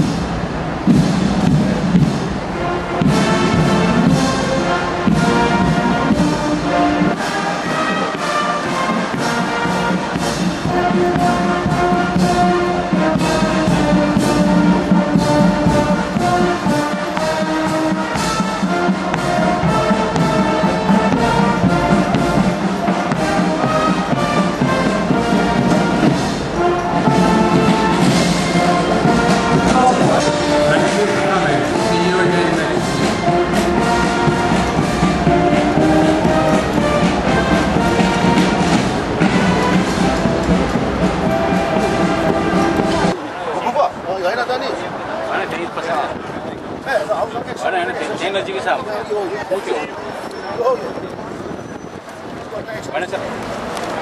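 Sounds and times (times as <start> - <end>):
steady drum beat: 0.0 - 43.2
marching brass band: 0.0 - 54.0.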